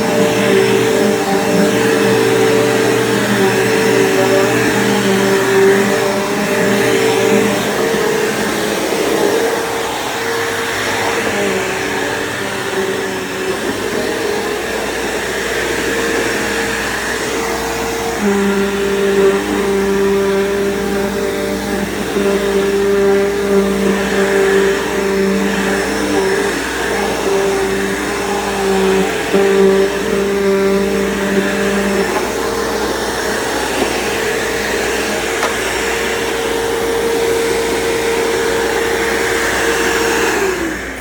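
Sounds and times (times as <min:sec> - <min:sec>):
upright vacuum cleaner running: 0:00.0 - 0:41.0.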